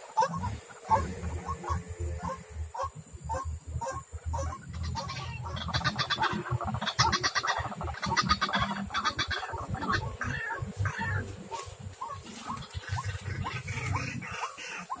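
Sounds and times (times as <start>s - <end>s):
waterhen honking and chattering: 0.0s - 15.0s.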